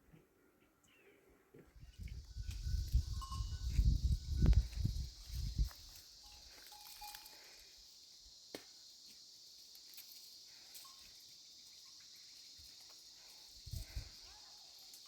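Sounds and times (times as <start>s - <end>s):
faint crickets chirping: 0.9s - 15.0s.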